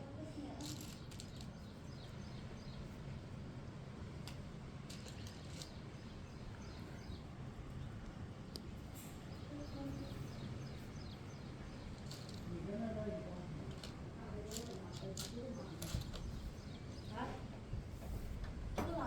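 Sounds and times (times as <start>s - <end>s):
small birds chirping: 0.1s - 3.4s, 4.1s - 17.8s.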